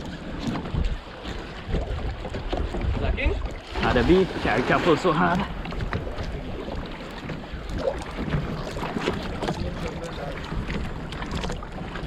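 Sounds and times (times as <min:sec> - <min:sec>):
water against boat hull: 0:00.0 - 0:12.0
wind buffeting microphone: 0:00.0 - 0:12.0.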